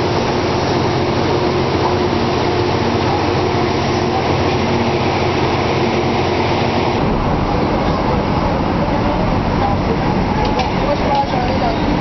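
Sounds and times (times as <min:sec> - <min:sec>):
engine room machinery humming: 0:00.0 - 0:12.0
low rumble of wind: 0:00.0 - 0:12.0
water rumbling: 0:00.0 - 0:12.0.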